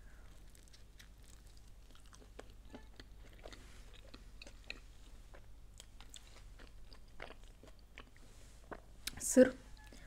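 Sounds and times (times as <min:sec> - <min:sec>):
mouth chewing crunchy food: 0:00.2 - 0:09.2.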